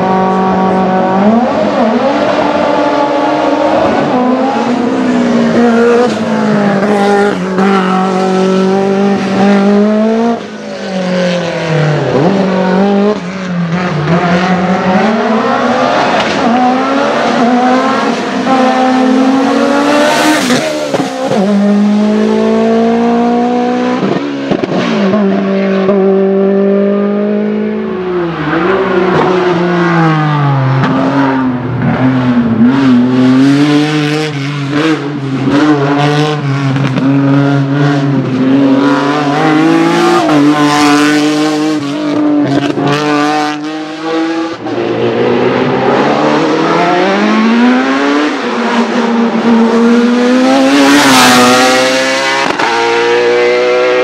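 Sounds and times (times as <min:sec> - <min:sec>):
formula car engine climbing: 0:00.0 - 0:54.0
racing car engines accelerating: 0:00.0 - 0:54.0.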